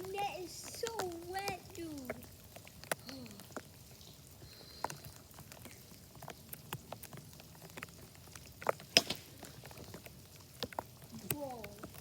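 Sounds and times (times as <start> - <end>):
raindrops ticking on plastic bag: 0.0 - 12.0
rainfall hiss: 0.0 - 12.0.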